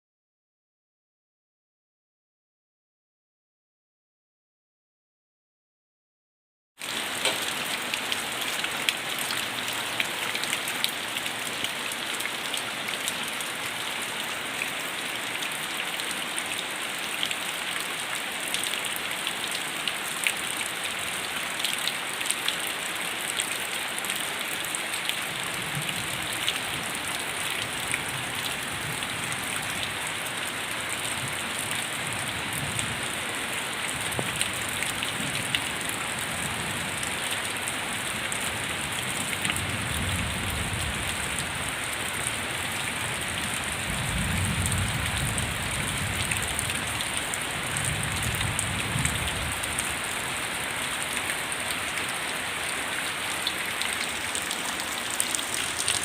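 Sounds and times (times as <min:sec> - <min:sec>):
heavy rain pouring: 0:06.8 - 0:56.0.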